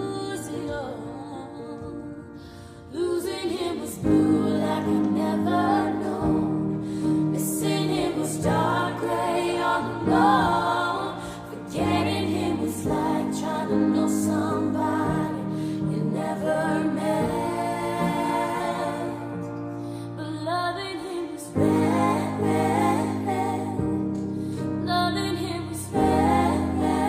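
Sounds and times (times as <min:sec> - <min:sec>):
slow song with singing voices: 0:00.0 - 0:27.0.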